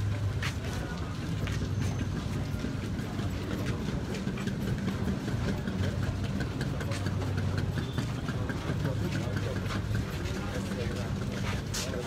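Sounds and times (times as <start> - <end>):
crowd footsteps shuffling: 0.0 - 12.0.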